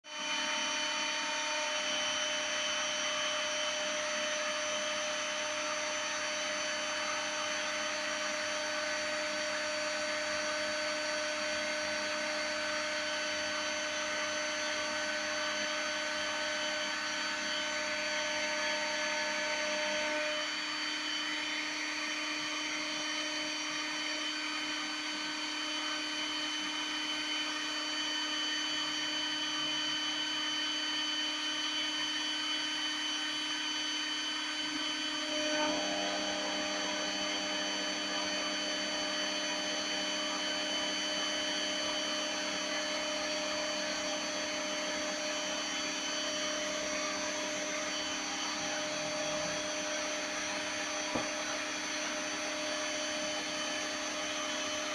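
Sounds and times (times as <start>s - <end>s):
router spindle high-pitched whine: 0.1s - 54.9s.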